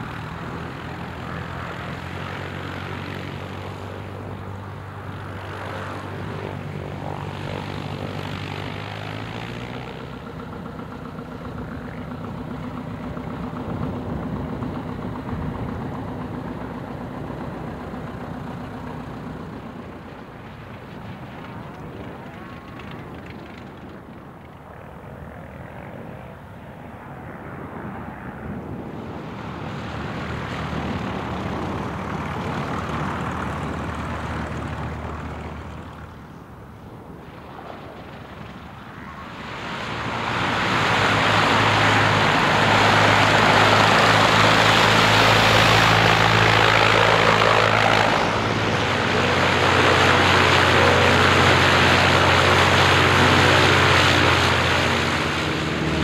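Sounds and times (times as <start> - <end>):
propeller aircraft engine: 0.0 - 56.0.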